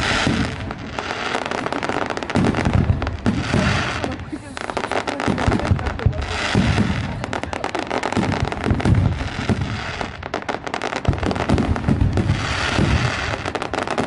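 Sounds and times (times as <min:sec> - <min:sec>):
fireworks booming: 0:00.0 - 0:14.0
fireworks popping and crackling: 0:00.0 - 0:14.0.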